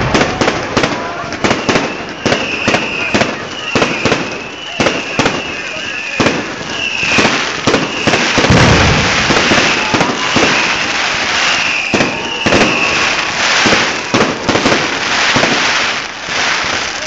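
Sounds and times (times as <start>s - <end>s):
fireworks crackling and banging: 0.0s - 17.0s
high firework whistles: 0.0s - 17.0s.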